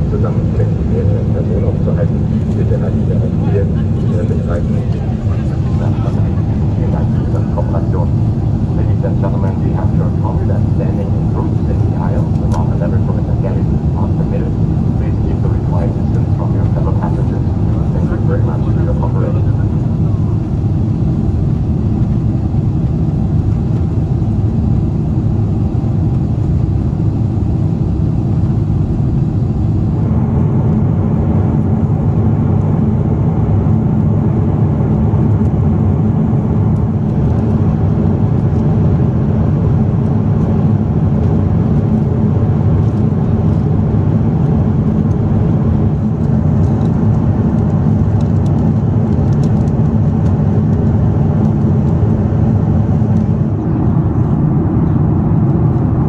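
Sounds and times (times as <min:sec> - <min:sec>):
airliner cabin noise: 0:00.0 - 0:56.0.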